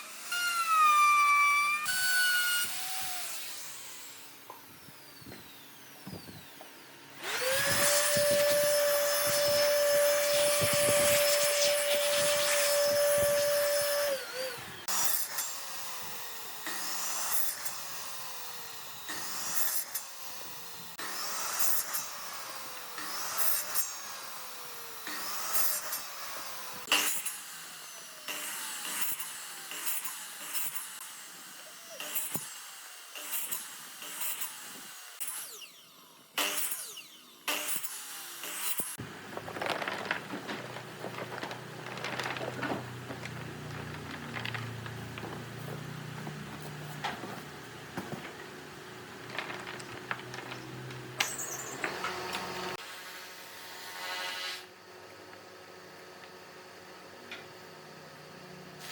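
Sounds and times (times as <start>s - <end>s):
power tool motor spinning: 0.0s - 52.8s.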